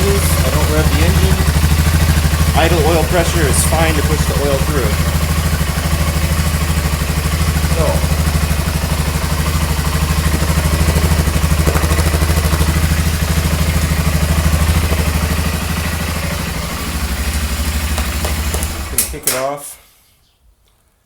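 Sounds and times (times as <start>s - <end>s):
motorcycle engine idling: 0.0s - 19.2s.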